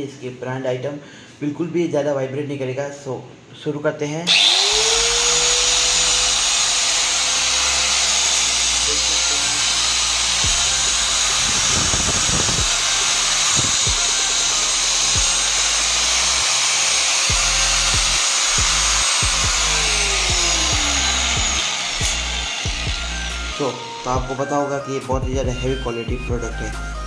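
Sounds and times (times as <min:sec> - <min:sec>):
angle grinder whining: 0:04.3 - 0:27.0.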